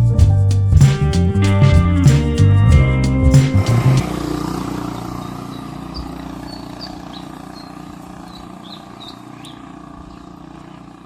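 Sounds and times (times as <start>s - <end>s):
vehicle engine running: 0.9s - 11.0s.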